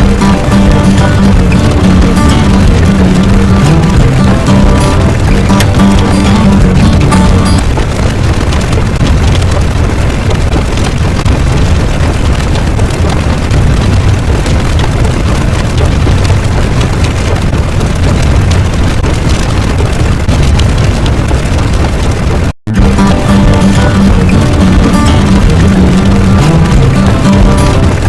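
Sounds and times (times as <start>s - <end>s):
loud low rumbling noise: 0.0s - 28.0s.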